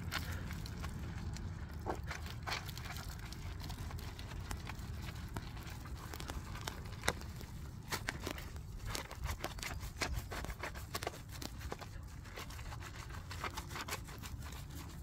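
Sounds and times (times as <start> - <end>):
steady low hum: 0.0 - 15.0
wash mitt scrubbing wheel: 0.0 - 15.0.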